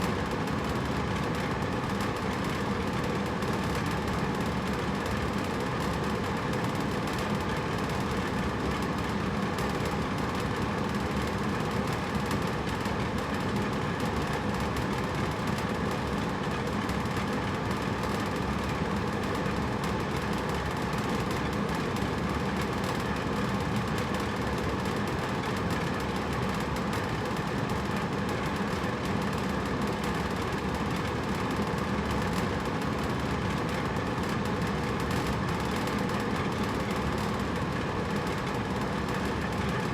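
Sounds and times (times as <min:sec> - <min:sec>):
air conditioner whooshing and humming: 0:00.0 - 0:39.9.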